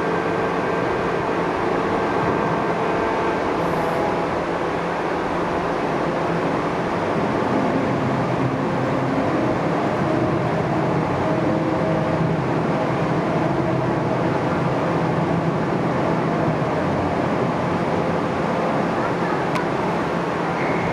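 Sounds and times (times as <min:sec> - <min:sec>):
forklift engine drone: 0:00.0 - 0:20.9.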